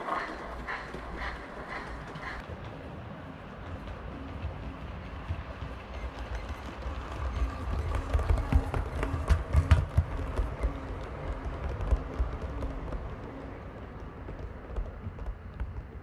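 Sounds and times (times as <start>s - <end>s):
wheels clicking on rail: 0.0s - 16.0s.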